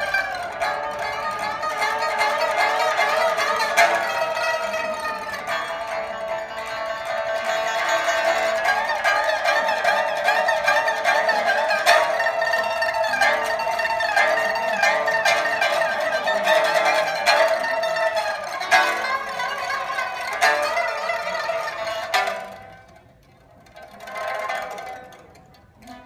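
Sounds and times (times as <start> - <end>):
pipa plucked notes: 0.0 - 26.0.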